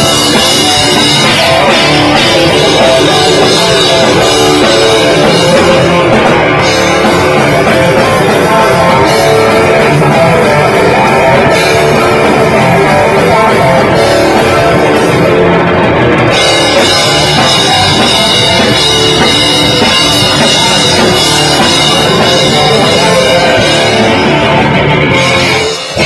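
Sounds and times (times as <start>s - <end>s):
distorted electric guitars: 0.0s - 26.0s
drum kit: 0.0s - 26.0s
high steady tone: 0.0s - 26.0s.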